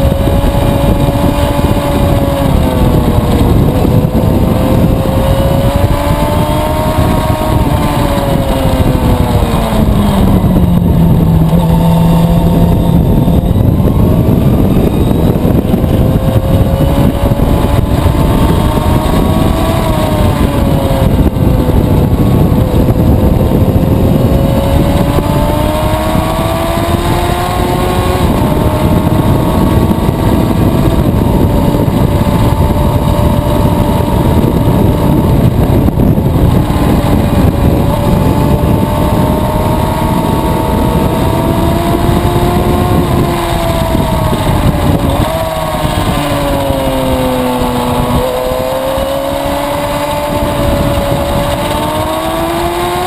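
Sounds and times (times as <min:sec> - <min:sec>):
motorcycle engine at high revs: 0:00.0 - 0:53.0
wind rush over microphone: 0:00.0 - 0:53.0.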